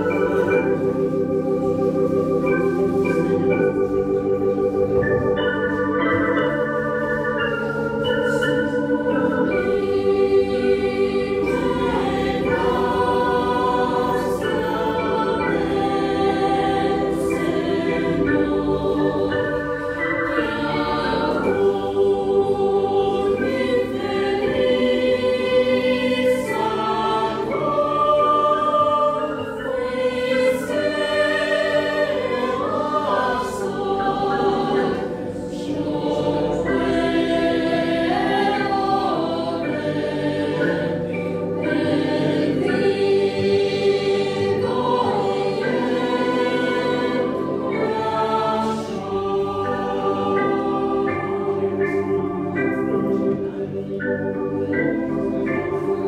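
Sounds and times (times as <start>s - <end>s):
keyboard sustained chords: 0.0s - 56.0s
mixed choir singing: 0.0s - 56.0s.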